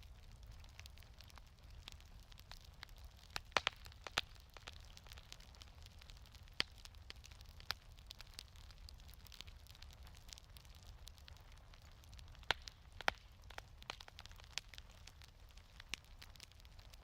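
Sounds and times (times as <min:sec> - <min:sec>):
wood fire crackling: 0:00.0 - 0:17.0
sharp fire pops: 0:00.4 - 0:17.0.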